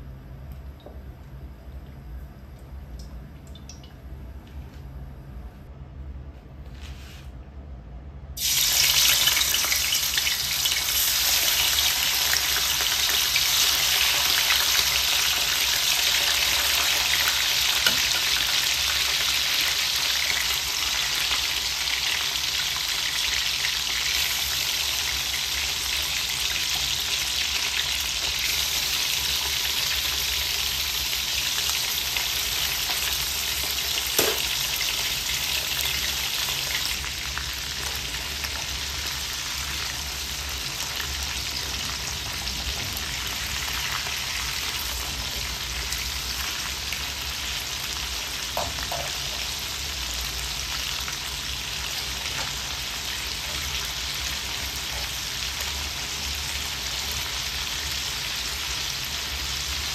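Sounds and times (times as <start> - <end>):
chicken sizzling in hot oil: 8.4 - 59.9.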